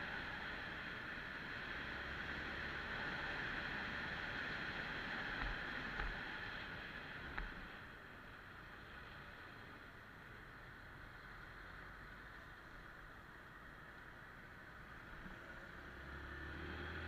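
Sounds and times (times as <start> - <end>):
motorcycle riding wind and road noise: 0.0 - 17.0.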